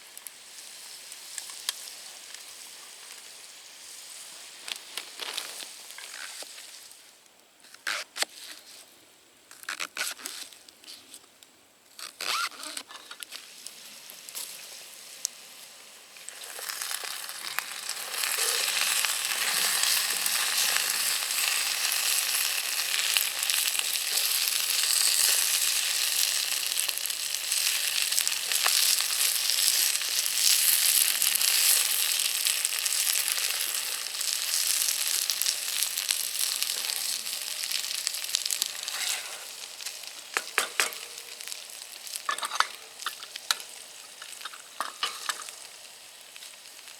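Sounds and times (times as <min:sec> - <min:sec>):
food sizzling in a pan: 0:00.0 - 0:07.2, 0:12.1 - 0:46.9.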